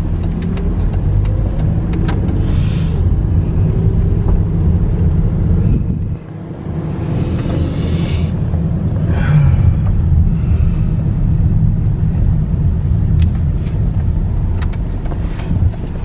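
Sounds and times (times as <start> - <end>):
car interior rumble: 0.0 - 16.0.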